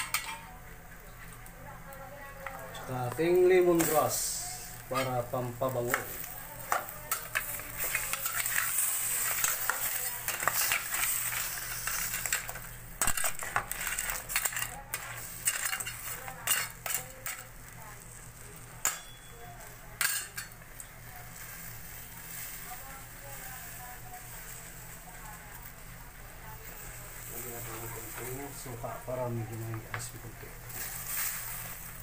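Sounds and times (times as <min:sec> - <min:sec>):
sizzling in pot: 0:00.0 - 0:32.0.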